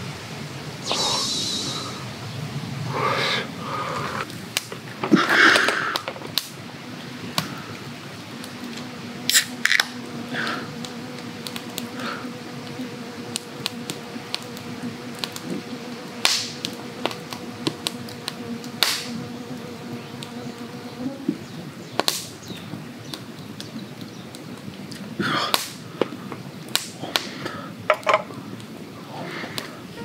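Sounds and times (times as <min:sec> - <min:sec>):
campfire crackling and popping: 0:02.8 - 0:30.0.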